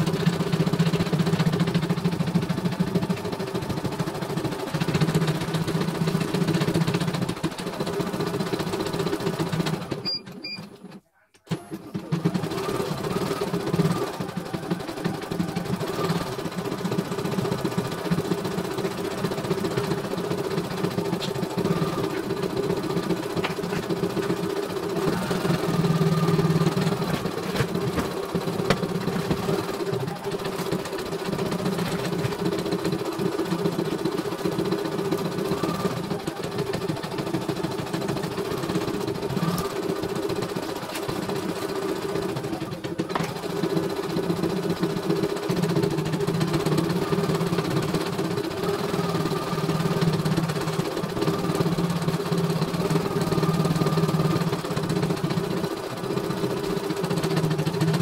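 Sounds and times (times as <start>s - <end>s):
embroidery machine stitching: 0.0s - 58.0s.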